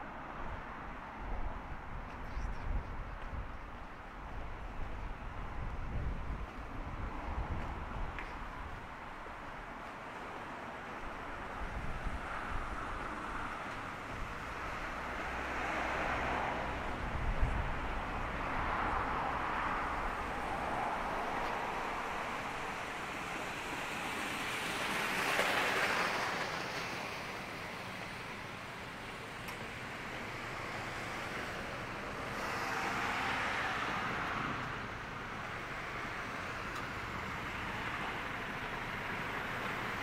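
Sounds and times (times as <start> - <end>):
vehicles passing on road: 0.0 - 40.0.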